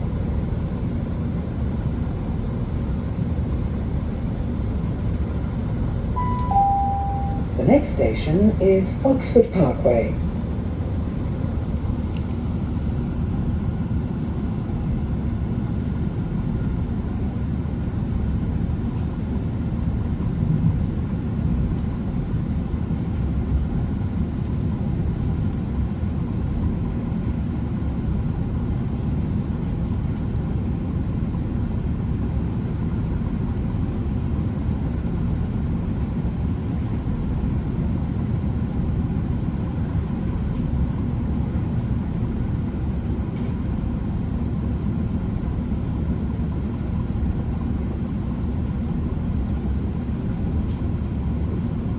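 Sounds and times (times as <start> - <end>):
train diesel engine rumble: 0.0 - 51.9.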